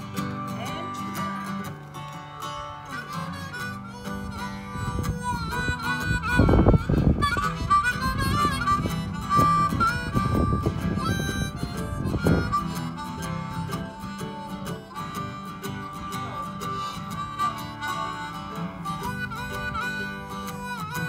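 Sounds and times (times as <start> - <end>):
harmonica solo: 0.0 - 21.0
strummed acoustic guitar: 0.0 - 21.0.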